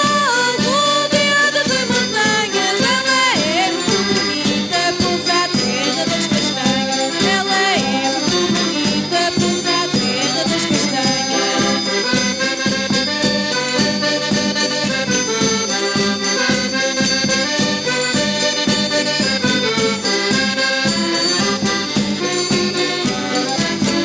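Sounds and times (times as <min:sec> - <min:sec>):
accordion melody: 0:00.0 - 0:24.0
jingling percussion: 0:00.0 - 0:24.0.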